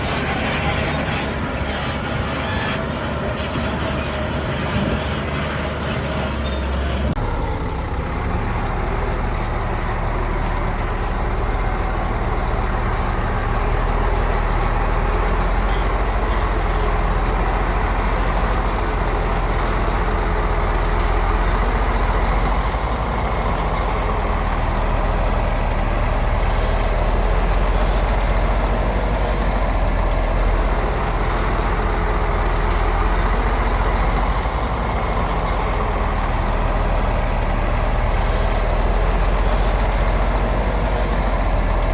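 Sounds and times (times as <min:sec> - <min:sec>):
heavy diesel engine running: 0:00.0 - 0:41.9.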